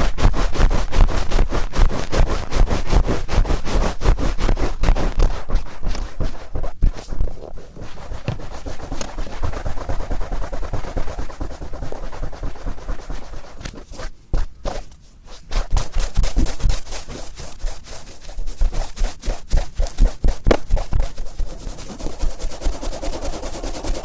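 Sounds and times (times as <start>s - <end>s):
cotton swab scraping in ear: 0.6s - 24.0s.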